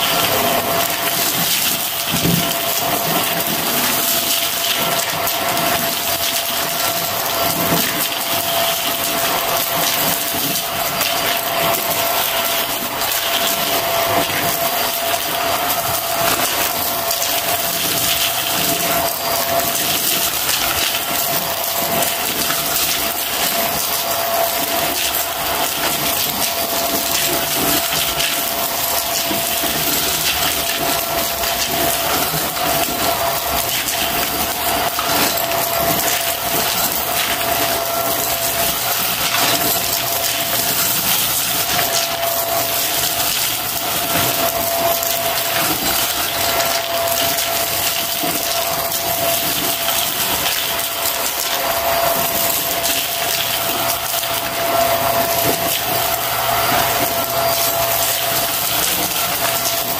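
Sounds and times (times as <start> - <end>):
vacuum cleaner whining: 0.0 - 59.9.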